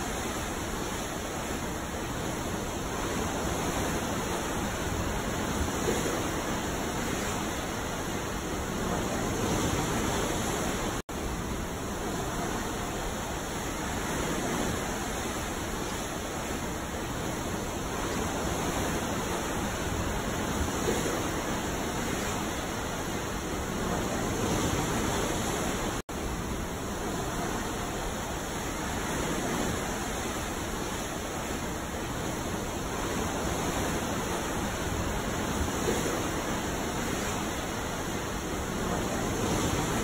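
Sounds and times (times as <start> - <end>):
ocean waves washing: 0.0 - 40.0.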